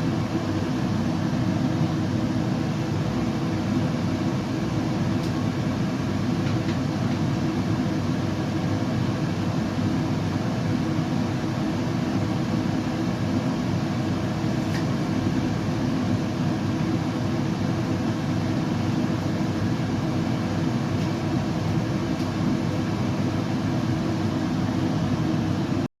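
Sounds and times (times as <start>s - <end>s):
low rumbling white noise: 0.0s - 25.9s.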